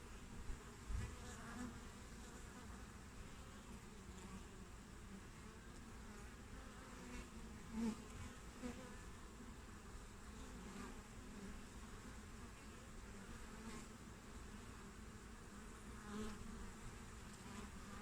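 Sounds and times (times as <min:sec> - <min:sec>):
bees buzzing at hive: 0:00.0 - 0:18.0
single bee flying past: 0:00.0 - 0:18.0.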